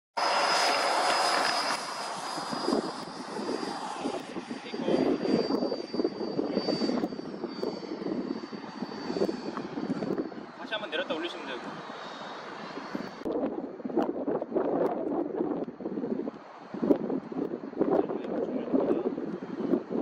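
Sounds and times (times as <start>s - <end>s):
model jet engine whine: 0.2s - 20.0s
wind buffeting microphone: 0.4s - 20.0s.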